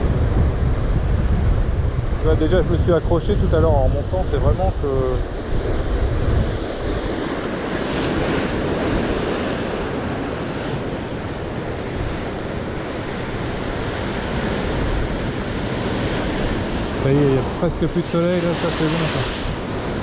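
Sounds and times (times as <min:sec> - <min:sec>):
surf breaking on rocky shore: 0:00.0 - 0:20.0.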